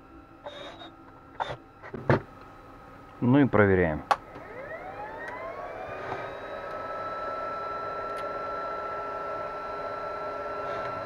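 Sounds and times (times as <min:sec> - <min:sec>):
cooling fans whining: 0:00.0 - 0:11.0.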